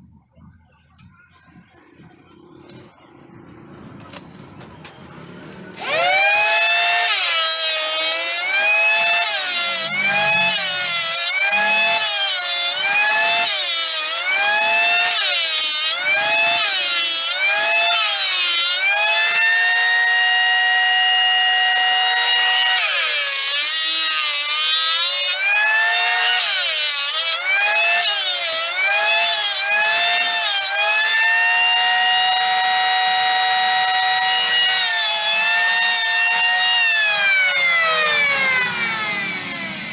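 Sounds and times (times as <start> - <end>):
electric planer cutting wood: 4.9 - 39.9.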